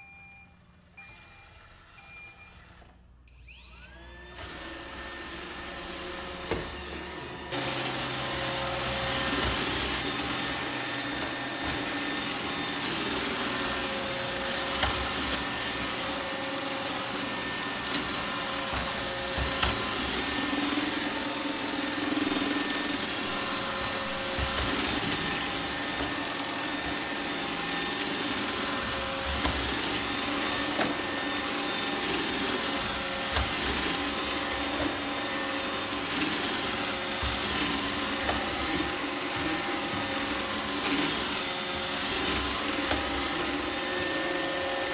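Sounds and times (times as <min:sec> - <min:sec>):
robot vacuum running: 0:01.0 - 0:44.9.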